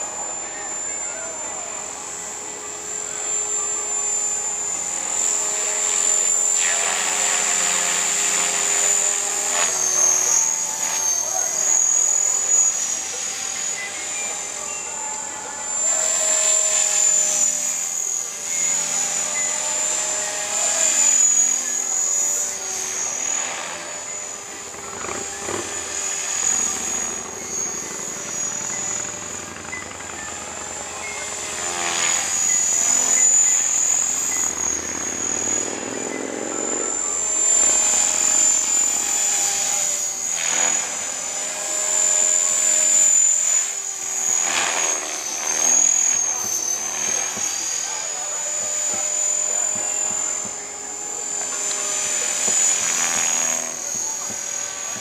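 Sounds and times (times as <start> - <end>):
model helicopter whine and buzz: 0.0 - 55.0.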